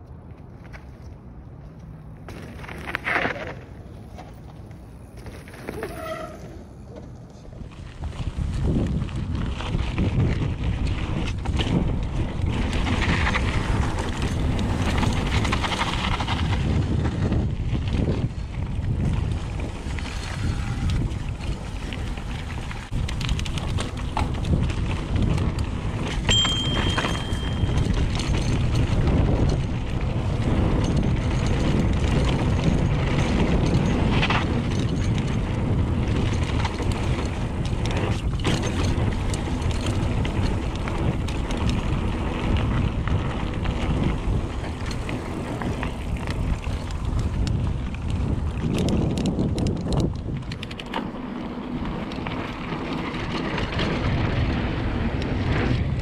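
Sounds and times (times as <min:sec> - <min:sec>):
tyres on dirt: 0:00.0 - 0:56.0
bike rattling and clicking: 0:01.8 - 0:56.0
wind rushing over microphone: 0:07.4 - 0:56.0.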